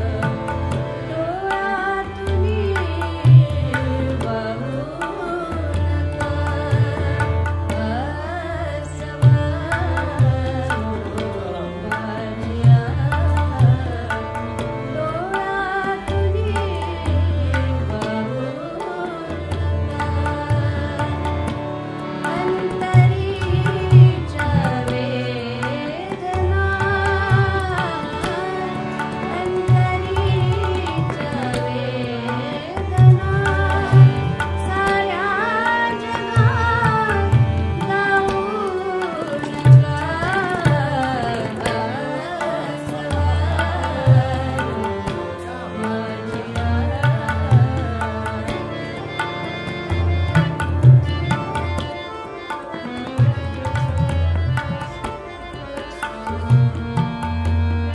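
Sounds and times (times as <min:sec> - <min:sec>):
harmonium: 0:00.0 - 0:57.9.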